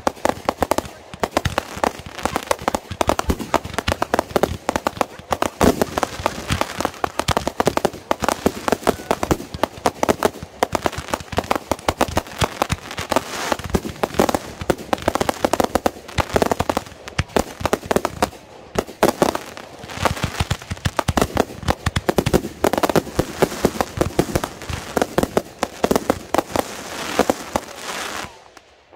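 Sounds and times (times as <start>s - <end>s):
fireworks popping and banging: 0.0s - 28.7s.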